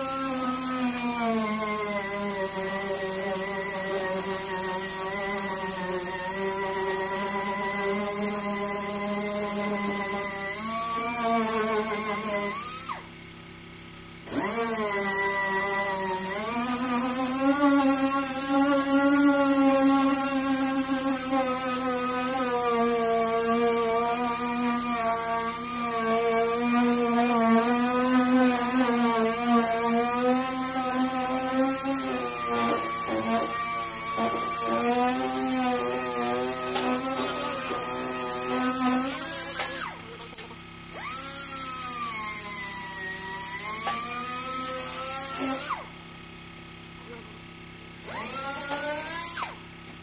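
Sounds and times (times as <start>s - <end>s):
motor humming whine: 0.0s - 50.0s.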